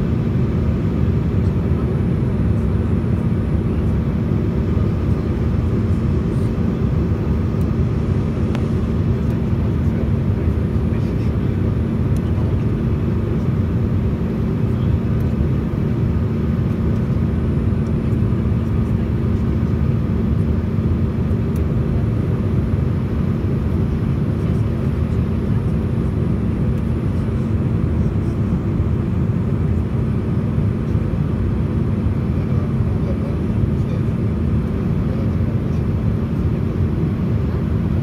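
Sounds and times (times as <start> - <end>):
airliner cabin engine rumble: 0.0 - 38.0
steady low hum: 0.0 - 38.0.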